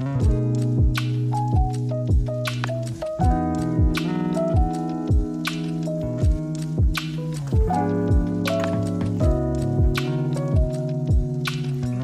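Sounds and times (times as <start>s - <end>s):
thudding drum beat: 0.2s - 11.8s.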